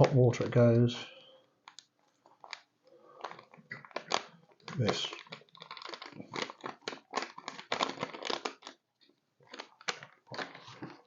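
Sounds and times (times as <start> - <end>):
sachet crinkling and rustling: 1.6 - 11.0.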